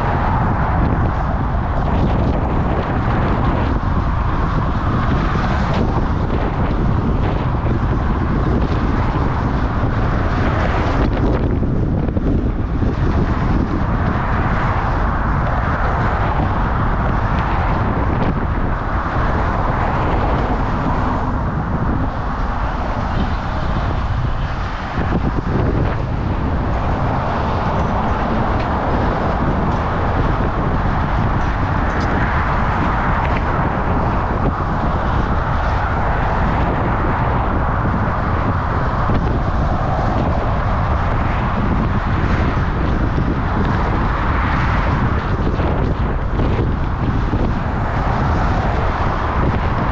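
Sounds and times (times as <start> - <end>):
road and traffic noise: 0.0 - 49.9
wind rushing over microphone: 0.0 - 49.9.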